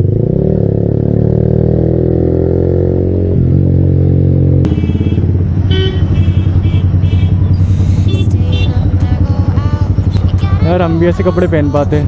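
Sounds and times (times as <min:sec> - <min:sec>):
motorcycle engine slowing: 0:00.0 - 0:12.0.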